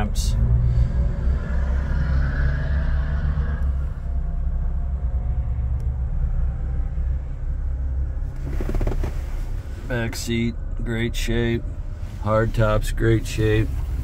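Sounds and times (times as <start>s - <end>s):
car engine low rumble: 0.0s - 14.0s.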